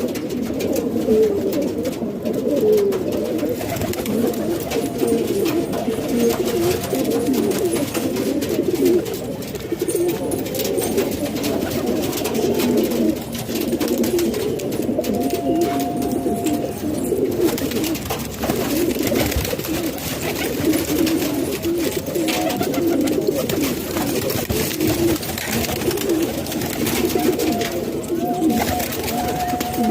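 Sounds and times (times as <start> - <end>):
birds scratching and clicking: 0.0 - 29.9
pigeons cooing: 0.0 - 29.9.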